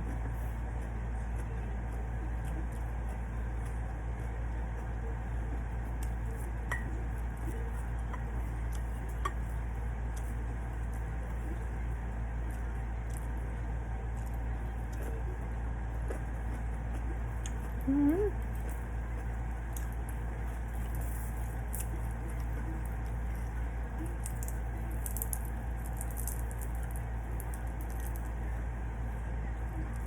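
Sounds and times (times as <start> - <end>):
quiet chewing: 0.0 - 30.0
steady low hum: 0.0 - 30.0.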